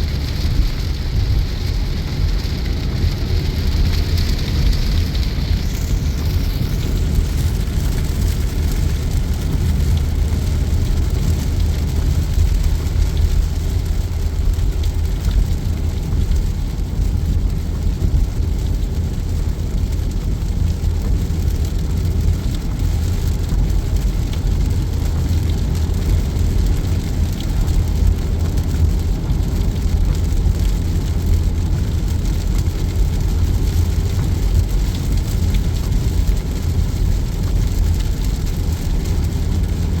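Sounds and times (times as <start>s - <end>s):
rain on car: 0.0s - 40.0s
road and tyre noise: 0.0s - 40.0s.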